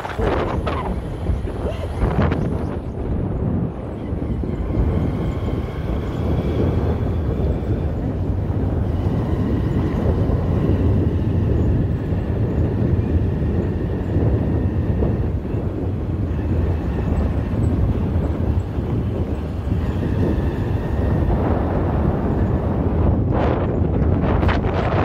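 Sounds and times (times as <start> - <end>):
motorcycle engine rumble: 0.0 - 25.0.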